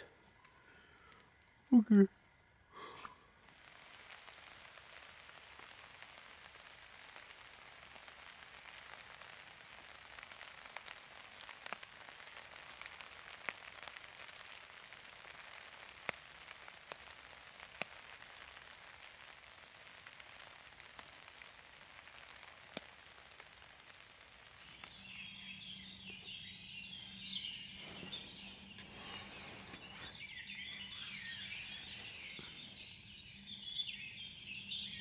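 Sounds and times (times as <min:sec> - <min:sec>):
light rain falling: 0:00.0 - 0:35.0.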